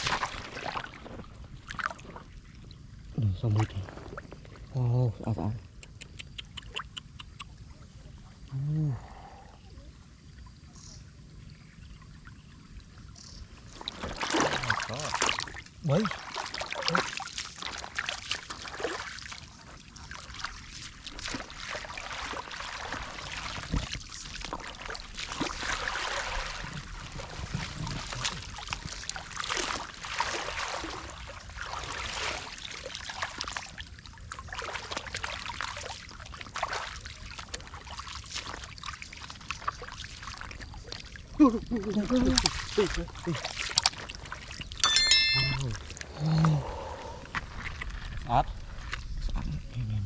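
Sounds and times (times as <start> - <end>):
water trickling and splashing: 0.0 - 5.8, 9.8 - 44.8.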